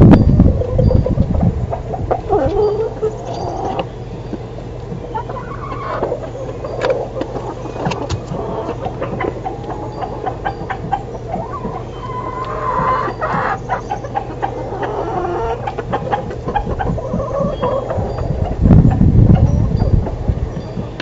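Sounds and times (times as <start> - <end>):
chickens clucking: 0.0 - 21.0
steady low hum: 0.0 - 21.0.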